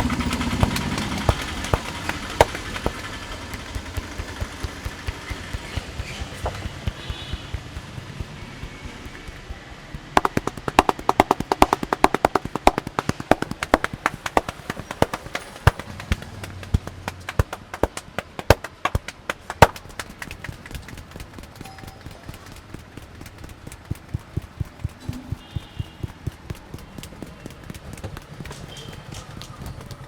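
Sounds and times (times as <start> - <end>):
hand slaps and claps on head: 0.4 - 30.0.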